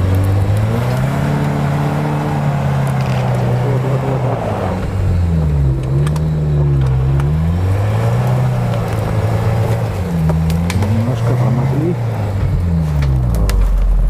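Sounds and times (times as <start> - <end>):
engine revving under load: 0.0 - 14.0.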